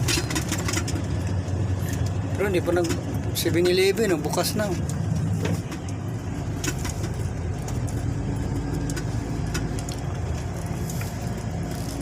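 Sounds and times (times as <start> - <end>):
diesel truck engine rumble: 0.0 - 12.0.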